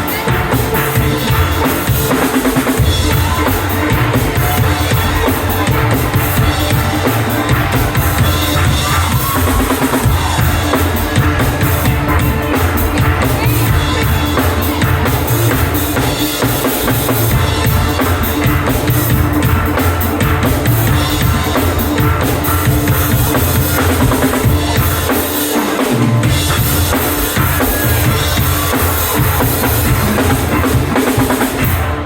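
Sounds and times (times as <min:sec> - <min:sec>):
drum kit beat: 0:00.0 - 0:32.0.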